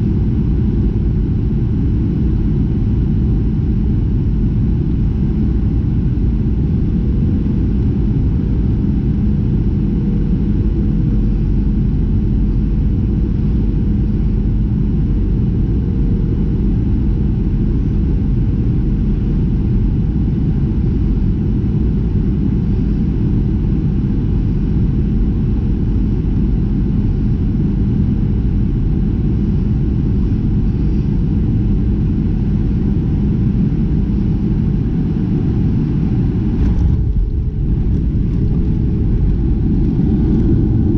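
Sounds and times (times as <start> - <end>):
airplane cabin engine rumble: 0.0 - 40.9
constant hum: 0.0 - 40.9.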